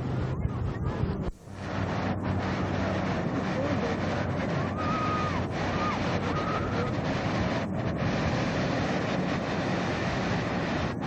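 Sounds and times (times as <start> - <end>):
wind buffeting microphone: 0.0 - 11.0
surf breaking: 0.6 - 11.0.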